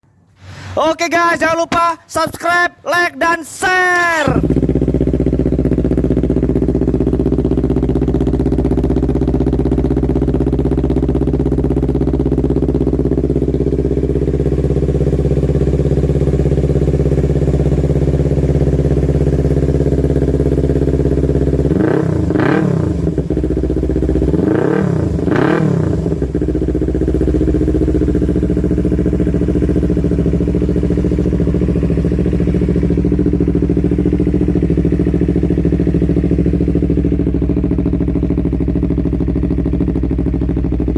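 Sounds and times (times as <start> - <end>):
motorcycle engine idling and revving: 4.0 - 40.9.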